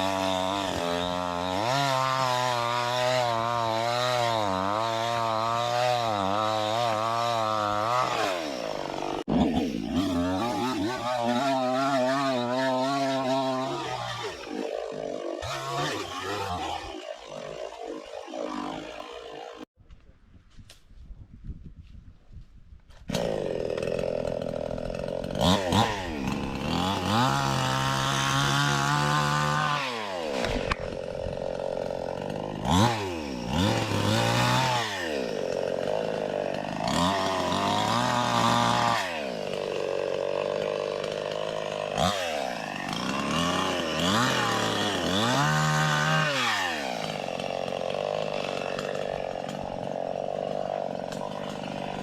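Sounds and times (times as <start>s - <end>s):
chainsaw idling and revving: 0.0s - 19.7s, 23.1s - 52.0s.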